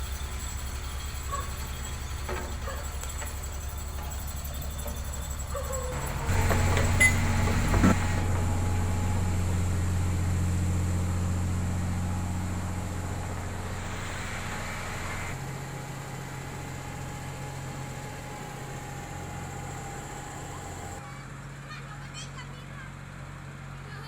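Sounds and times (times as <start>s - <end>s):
diesel engine revving and idling: 0.0s - 21.4s.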